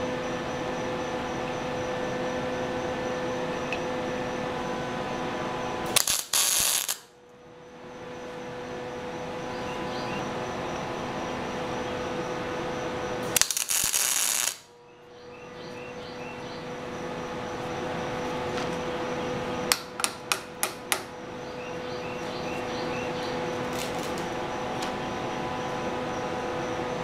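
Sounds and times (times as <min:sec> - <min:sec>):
machine hum: 0:00.0 - 0:27.0.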